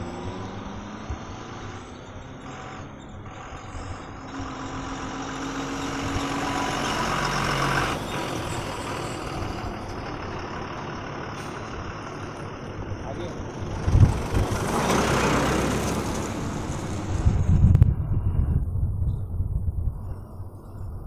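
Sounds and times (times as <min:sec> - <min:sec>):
heavy truck passing: 0:00.0 - 0:20.6.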